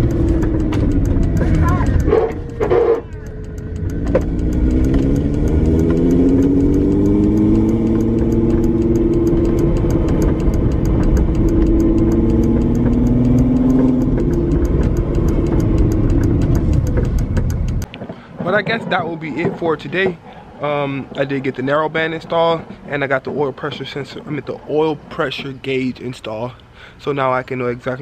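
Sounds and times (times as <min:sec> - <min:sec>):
car engine revving: 0:00.0 - 0:25.6.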